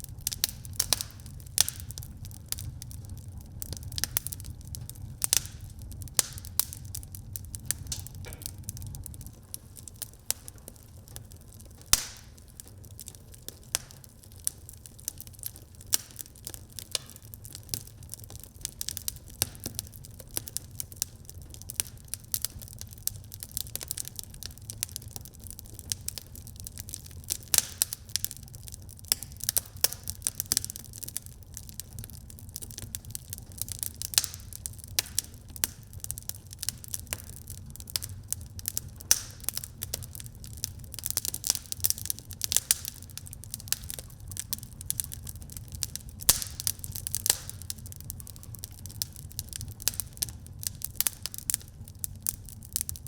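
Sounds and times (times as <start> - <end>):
low rumble of fire: 0.0 - 53.0
wood fire crackling and popping: 0.0 - 53.0.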